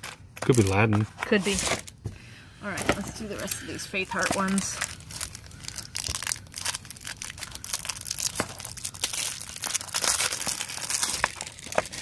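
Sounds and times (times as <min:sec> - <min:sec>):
plastic wrap crinkling and tearing: 0:00.0 - 0:02.0, 0:04.1 - 0:12.0.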